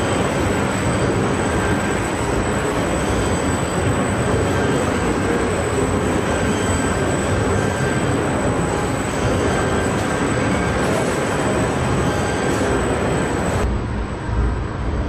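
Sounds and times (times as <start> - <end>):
faint high whine: 0.0 - 14.6
factory machinery rumble: 0.0 - 15.0.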